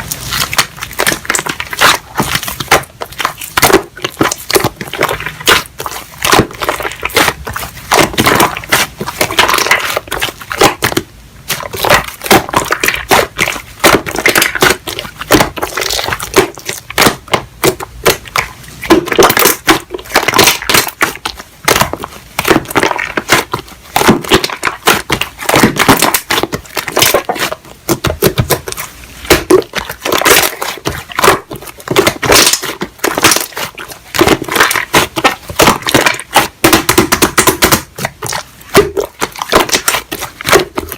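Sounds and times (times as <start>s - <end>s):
slime crackling and popping: 0.0s - 40.9s.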